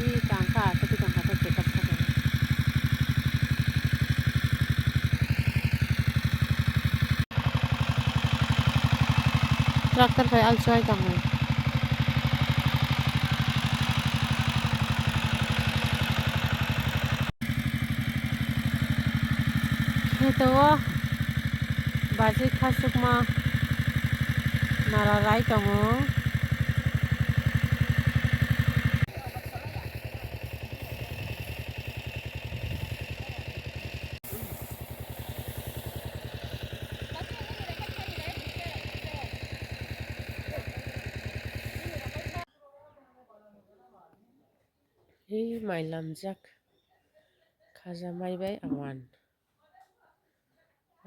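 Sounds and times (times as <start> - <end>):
tractor engine chugging: 0.0 - 42.5.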